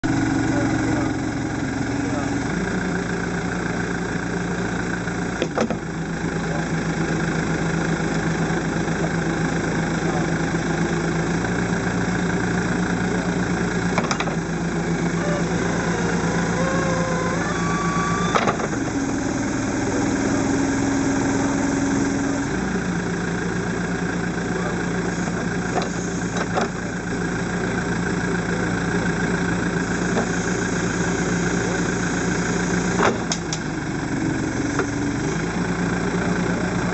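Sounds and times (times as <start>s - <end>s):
backhoe engine running: 0.0s - 36.9s.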